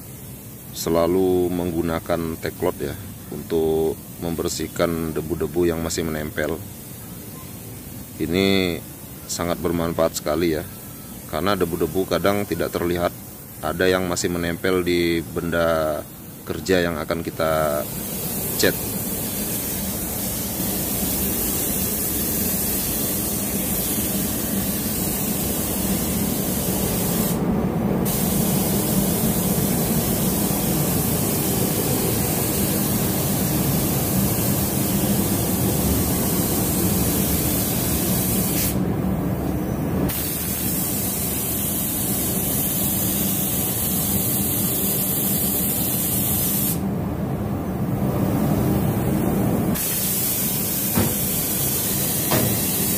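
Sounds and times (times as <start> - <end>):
spray gun hissing: 0.0 - 38.9, 40.1 - 46.9, 48.5 - 52.9.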